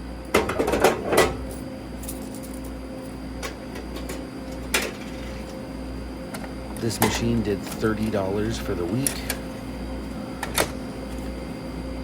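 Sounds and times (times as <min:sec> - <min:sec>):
vending machine electrical hum: 0:00.0 - 0:12.0.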